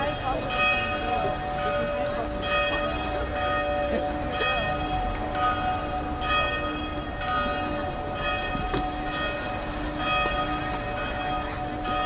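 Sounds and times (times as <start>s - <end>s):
church bells ringing: 0.0s - 12.0s.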